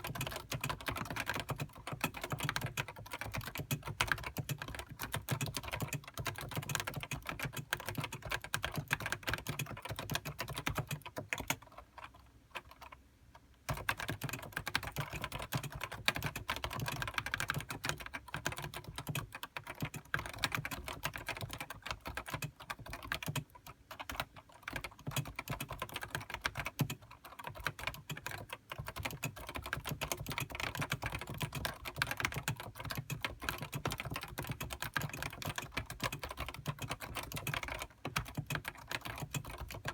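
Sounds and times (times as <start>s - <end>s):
keyboard typing: 0.0s - 13.0s, 13.6s - 39.9s.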